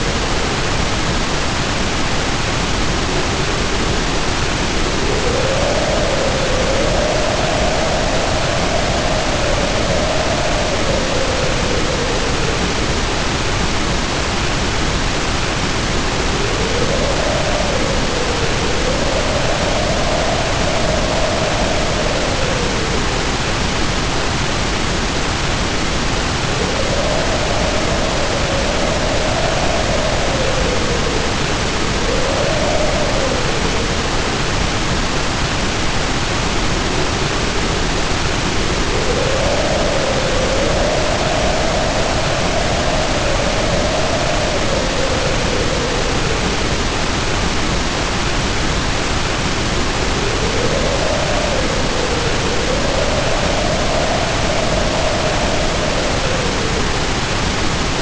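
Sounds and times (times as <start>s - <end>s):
heavy rain pouring: 0.0s - 58.0s
wind howling in gusts: 0.0s - 58.0s.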